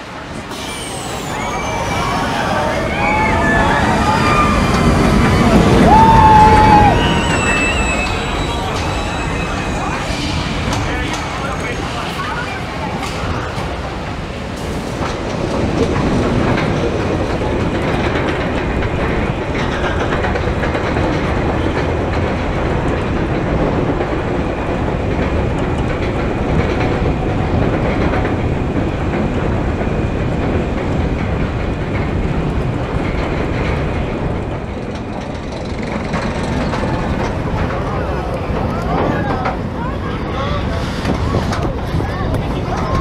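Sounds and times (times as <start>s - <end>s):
roller coaster lift chain rattling: 0.4s - 43.0s.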